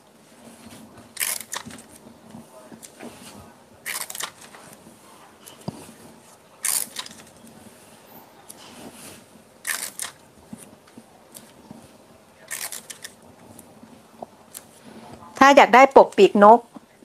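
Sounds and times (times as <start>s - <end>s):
paper sheets rustling: 0.2s - 15.2s.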